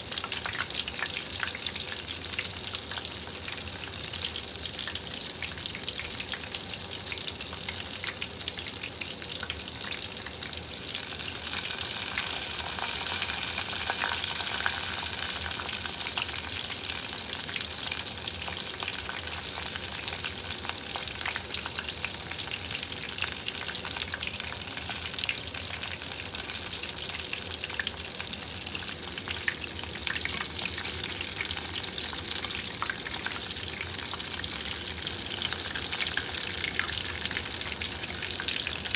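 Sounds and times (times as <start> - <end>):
deep-frying sizzle with pops: 0.0 - 38.9.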